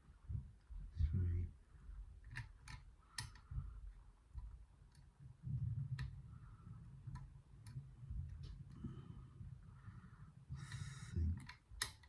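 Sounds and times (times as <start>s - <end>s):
low rumble of handling noise: 0.0s - 12.0s.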